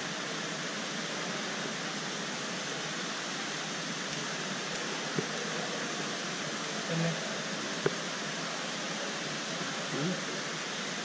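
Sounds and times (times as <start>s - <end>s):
shopping mall background hiss: 0.0s - 11.0s.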